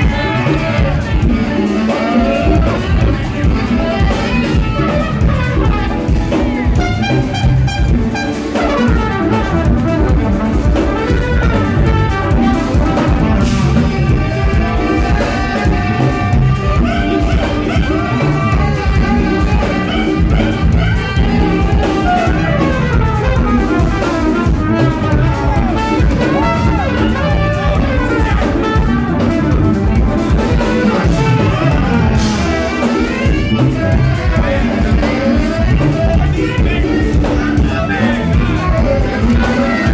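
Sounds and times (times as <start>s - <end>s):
live jazz fusion band: 0.0s - 39.9s
trumpet soloing: 0.0s - 39.9s.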